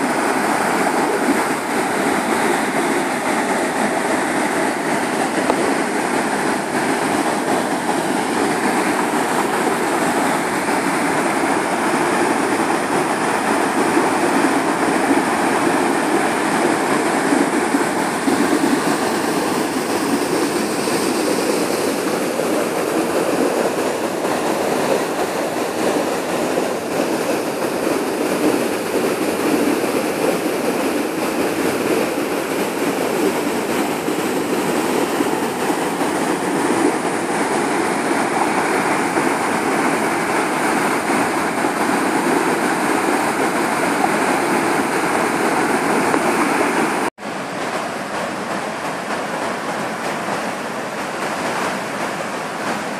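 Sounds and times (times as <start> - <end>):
water rushing over dam spillway: 0.0 - 52.9.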